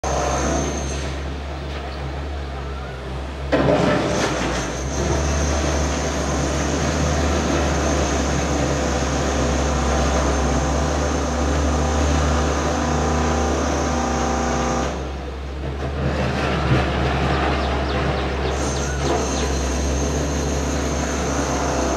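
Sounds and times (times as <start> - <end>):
jet engines rumbling and whining: 0.0 - 21.9.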